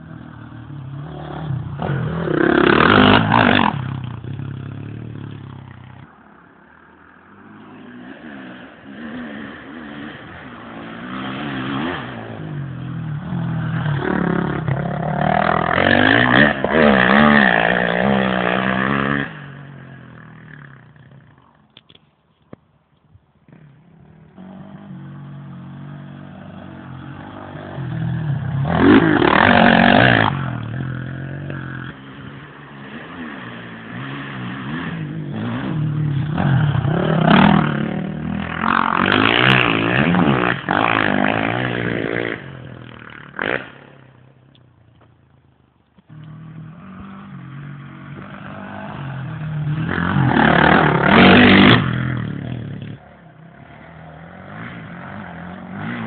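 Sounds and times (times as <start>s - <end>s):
motocross bikes revving: 0.0s - 21.7s, 23.4s - 44.8s, 46.0s - 56.0s.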